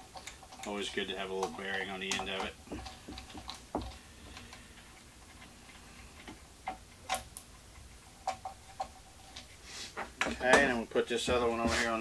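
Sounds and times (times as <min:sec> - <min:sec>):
metal parts clicking and tapping: 0:00.0 - 0:12.0.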